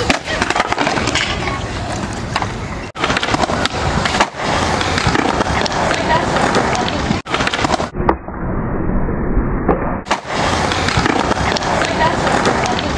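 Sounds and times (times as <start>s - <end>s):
skateboard clacks: 0.0s - 7.9s, 10.1s - 12.9s
skateboard wheels rolling on concrete: 0.0s - 7.9s, 10.0s - 12.9s.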